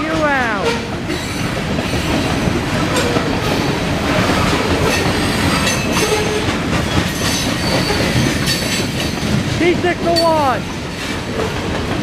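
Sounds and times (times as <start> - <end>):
train cars rumbling: 0.0 - 12.0
wheels clicking over rail joints: 0.0 - 12.0.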